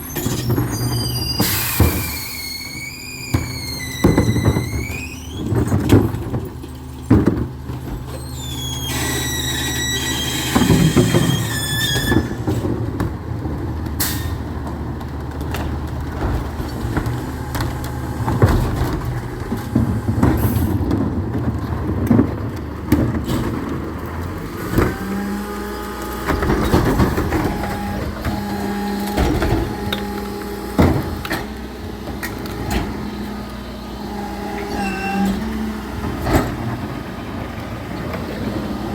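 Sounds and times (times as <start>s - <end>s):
clunks and knocks: 0.0s - 38.9s
truck diesel engine running: 0.0s - 38.9s.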